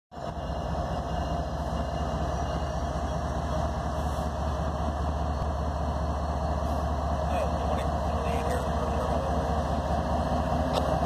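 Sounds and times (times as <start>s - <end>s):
diesel locomotive engine rumble: 0.1s - 11.0s.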